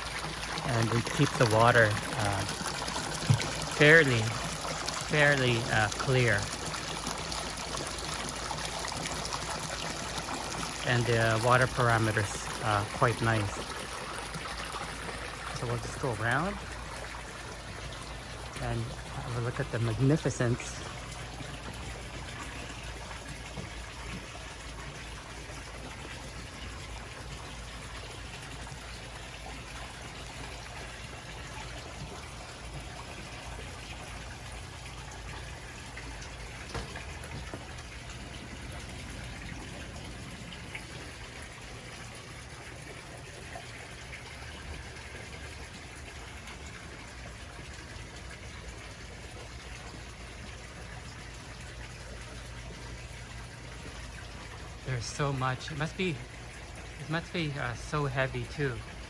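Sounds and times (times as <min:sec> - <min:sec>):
water trickling into pond: 0:00.0 - 0:59.0.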